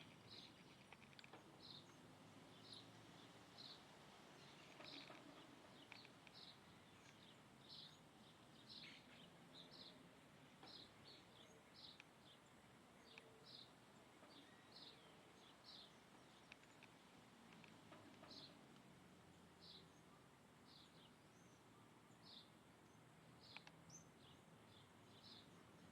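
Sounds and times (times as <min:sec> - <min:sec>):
birds chirping faintly: 0:00.0 - 0:25.9.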